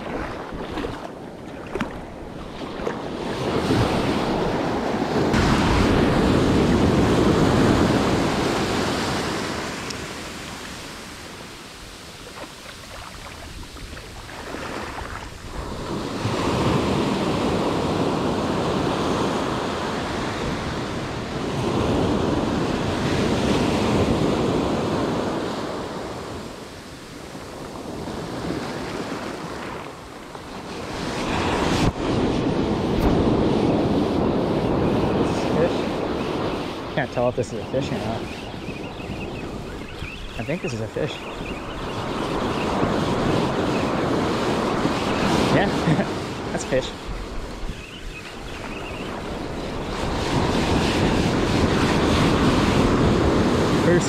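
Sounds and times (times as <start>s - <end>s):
ocean surf breaking on shore: 0.0s - 54.0s.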